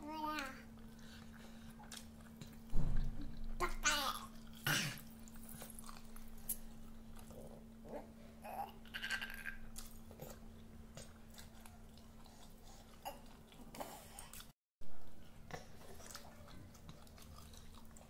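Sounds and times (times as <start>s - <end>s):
toddler chewing and lip smacking: 0.0s - 18.0s.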